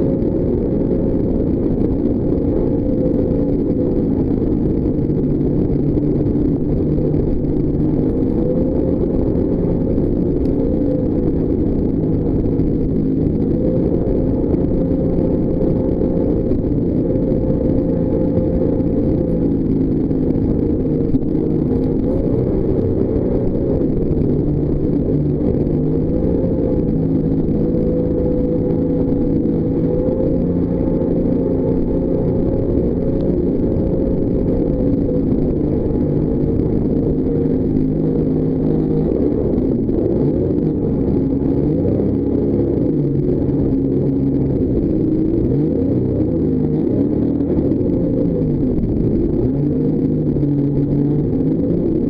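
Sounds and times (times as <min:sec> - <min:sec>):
jetboat engine running: 0:00.0 - 0:52.0.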